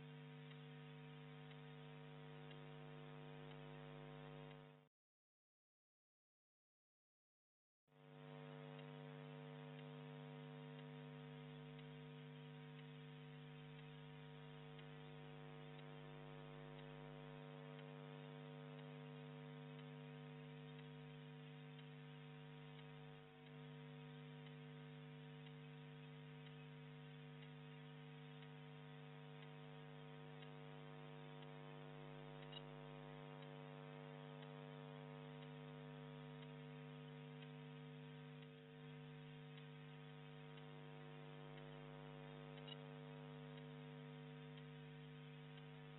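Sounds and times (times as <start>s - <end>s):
faint electrical mains hum: 0.0s - 4.9s, 8.0s - 45.9s.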